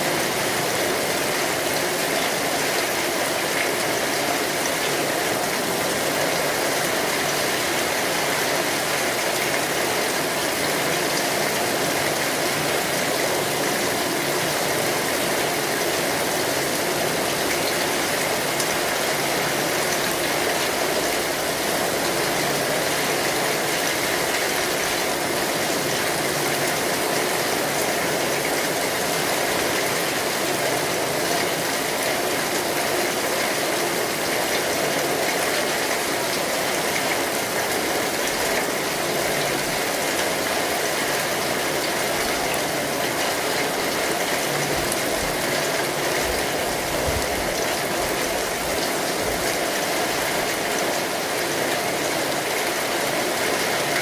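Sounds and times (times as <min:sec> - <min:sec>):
rain on an umbrella: 0:00.0 - 0:54.0.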